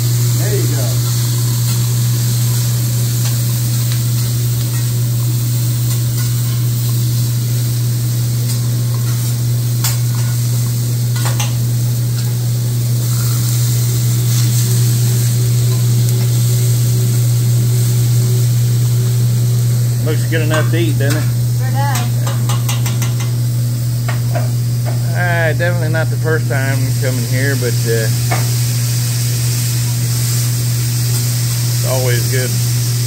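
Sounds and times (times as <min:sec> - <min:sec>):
steady low hum: 0:00.0 - 0:33.0
vegetables sizzling on a griddle: 0:00.0 - 0:33.0.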